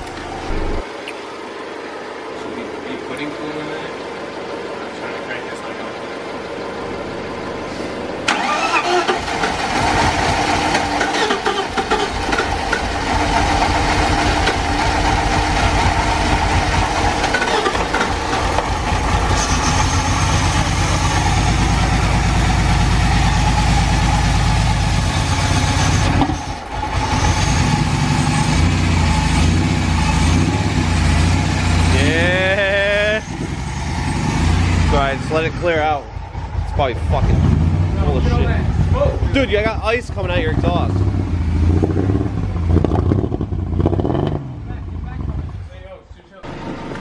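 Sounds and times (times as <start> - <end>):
car engine cranking and running: 0.0 - 1.1, 3.9 - 47.0.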